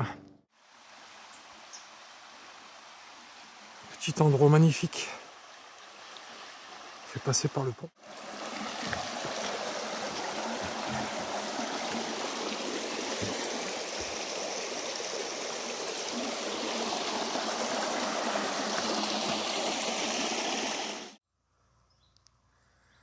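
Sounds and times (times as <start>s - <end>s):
stream flowing over stones: 0.5s - 21.2s.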